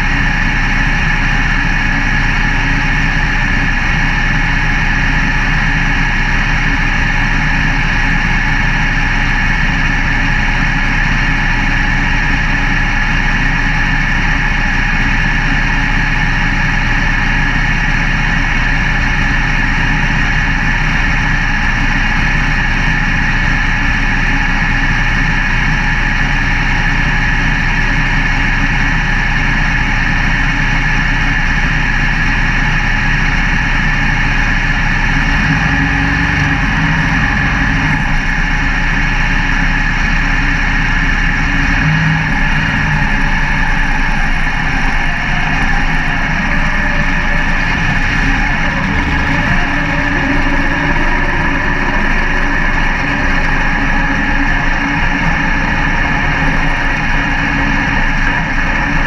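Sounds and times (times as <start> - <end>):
race car engine idling: 0.0 - 59.0.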